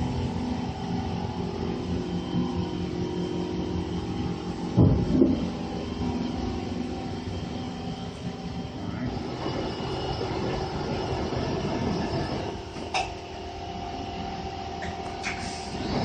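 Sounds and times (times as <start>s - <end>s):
machining center hum and whine: 0.0s - 16.0s.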